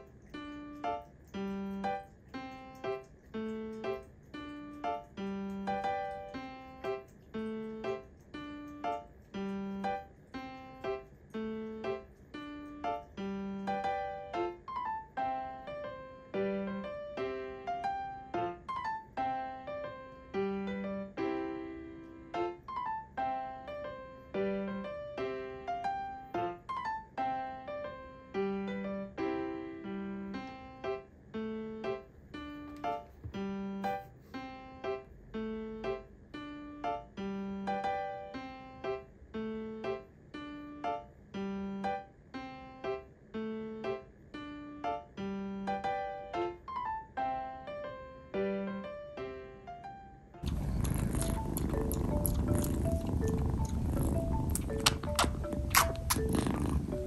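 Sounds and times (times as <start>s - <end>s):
piano-like keyboard music: 0.0s - 57.0s.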